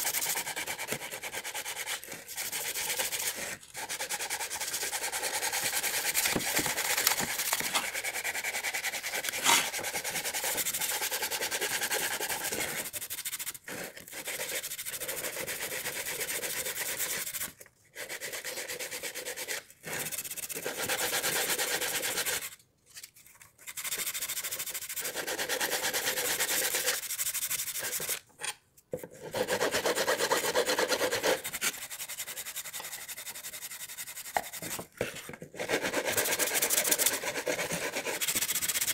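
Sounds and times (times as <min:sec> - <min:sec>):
sandpaper scraping wood: 0:00.0 - 0:22.6, 0:23.6 - 0:28.2, 0:29.2 - 0:38.9.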